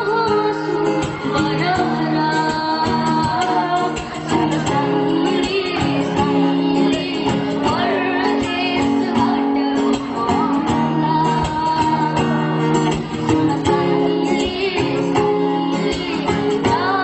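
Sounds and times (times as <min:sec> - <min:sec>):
guitar accompaniment: 0:00.0 - 0:17.0
person singing: 0:00.0 - 0:17.0.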